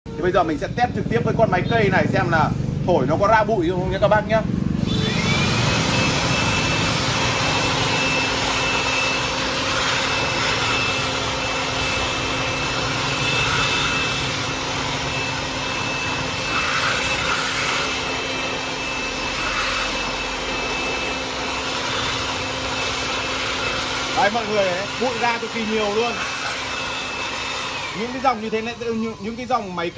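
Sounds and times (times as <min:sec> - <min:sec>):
electric blower whining: 0:00.1 - 0:29.9.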